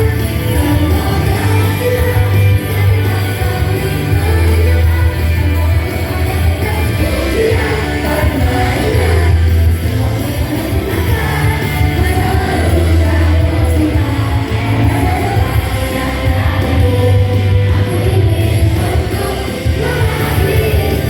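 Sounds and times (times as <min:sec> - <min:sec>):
person singing: 0:00.0 - 0:21.0
rock band playing live: 0:00.0 - 0:21.0.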